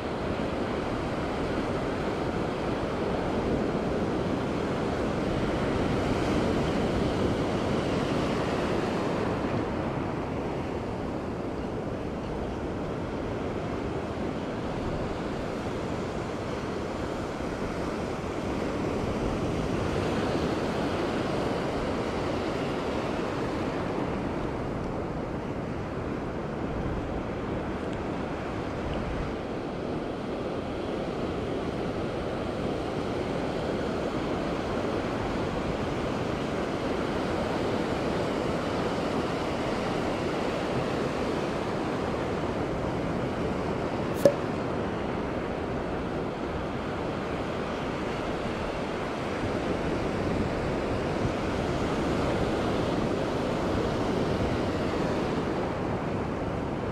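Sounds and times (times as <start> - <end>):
waves breaking offshore: 0.0 - 56.9.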